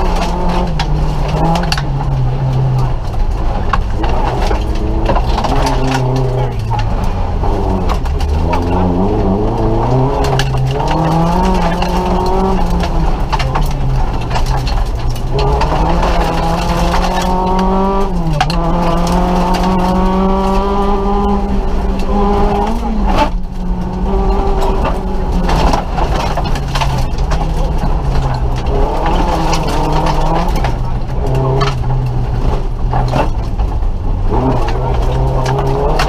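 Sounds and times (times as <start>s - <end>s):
car engine revving through gears: 0.0s - 36.0s.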